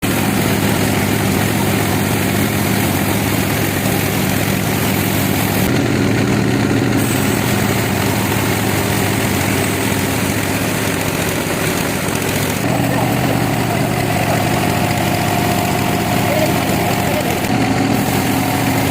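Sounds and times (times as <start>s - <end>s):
sawmill engine droning: 0.0s - 18.9s.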